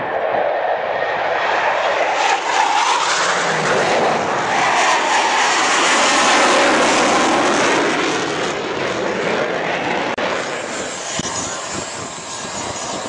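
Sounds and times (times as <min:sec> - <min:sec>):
loud jet engine roar: 0:00.0 - 0:13.0.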